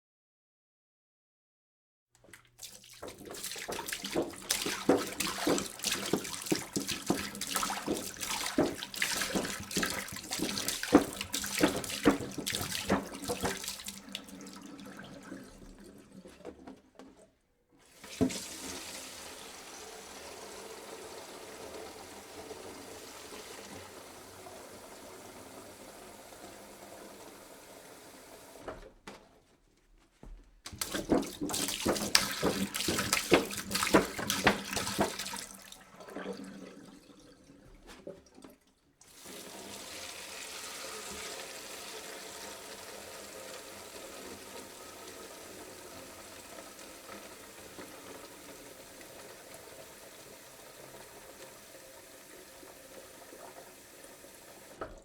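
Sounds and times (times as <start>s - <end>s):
water pouring into a jug: 2.2s - 17.2s, 17.8s - 28.6s, 30.7s - 55.0s.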